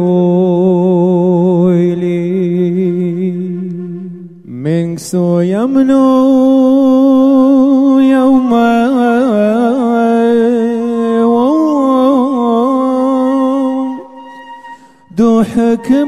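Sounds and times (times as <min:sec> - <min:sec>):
man singing unaccompanied: 0:00.0 - 0:14.3, 0:15.0 - 0:16.0.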